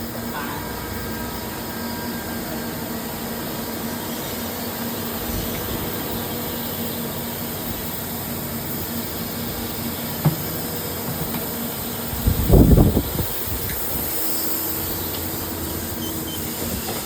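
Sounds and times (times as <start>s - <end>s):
machinery hiss and hum: 0.0s - 17.0s.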